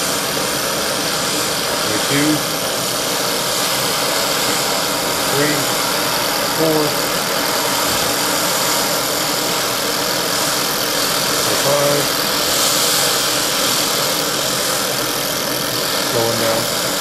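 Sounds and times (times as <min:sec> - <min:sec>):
model stirling engine running: 0:00.0 - 0:17.0.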